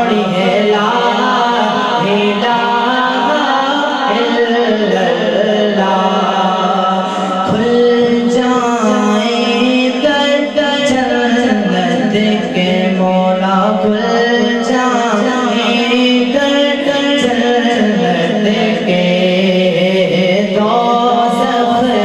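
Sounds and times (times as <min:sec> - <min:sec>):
man singing devotional song: 0:00.0 - 0:22.0.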